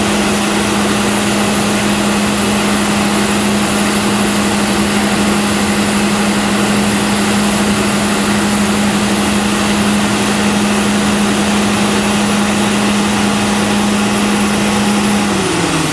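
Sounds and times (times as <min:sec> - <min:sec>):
combine harvester droning: 0:00.0 - 0:15.9.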